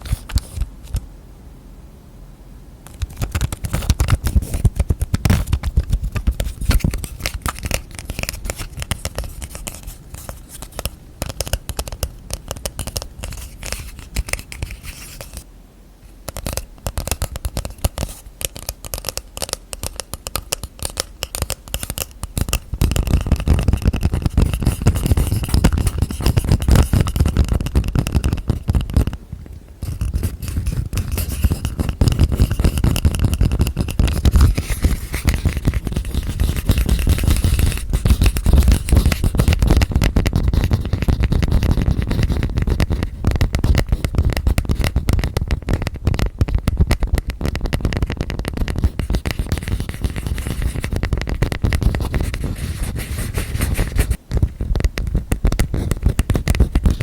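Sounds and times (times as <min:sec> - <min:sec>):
fingertips tapping and scratching: 0:00.0 - 0:01.0, 0:02.9 - 0:15.4, 0:16.2 - 0:57.0.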